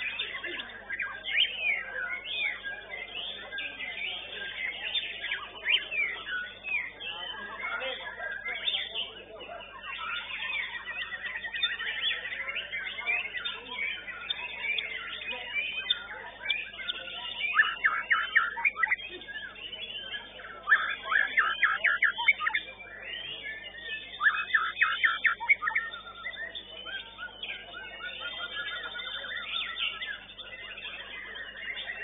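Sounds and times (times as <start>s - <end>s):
birds singing whistles and chirps: 0.0s - 32.0s.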